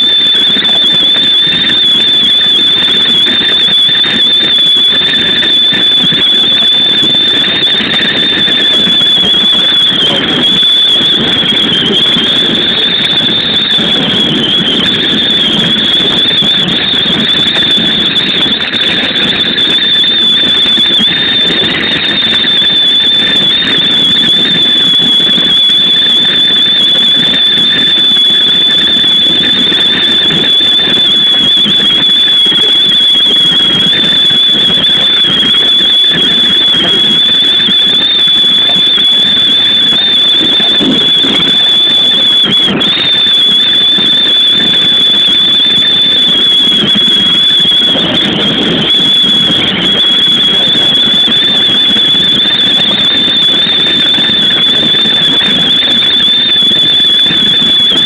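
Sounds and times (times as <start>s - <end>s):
train running noise: 0.0s - 56.6s
high-pitched whistle: 0.0s - 58.0s
wind noise: 0.0s - 58.0s.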